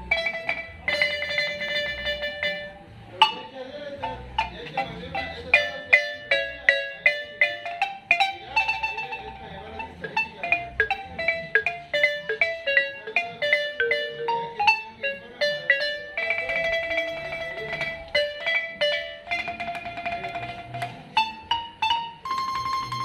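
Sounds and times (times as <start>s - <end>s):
marimba melody: 0.0s - 23.0s.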